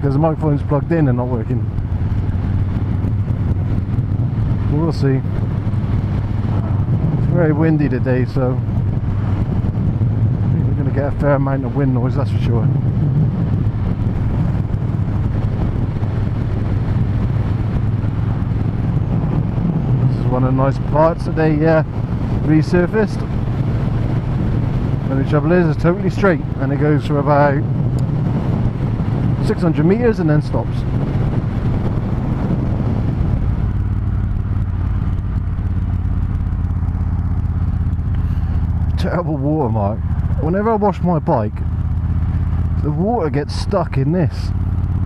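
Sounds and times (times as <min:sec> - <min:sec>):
wind noise on microphone: 0:00.0 - 0:40.5
motorcycle engine cruising: 0:00.0 - 0:45.0.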